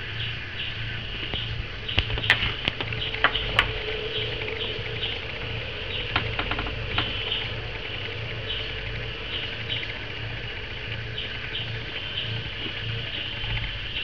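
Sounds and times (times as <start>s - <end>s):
insect-like chirping: 0.0s - 14.0s
low hum: 0.0s - 14.0s.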